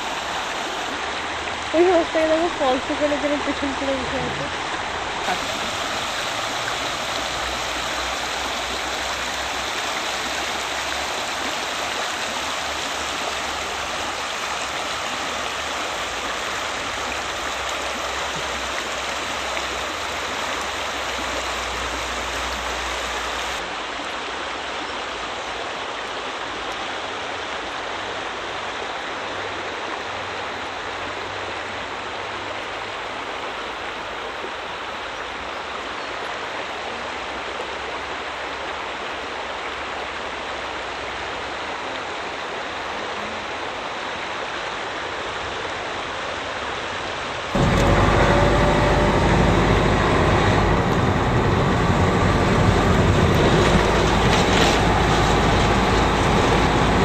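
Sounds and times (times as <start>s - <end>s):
river water rushing over weir: 0.0s - 57.0s.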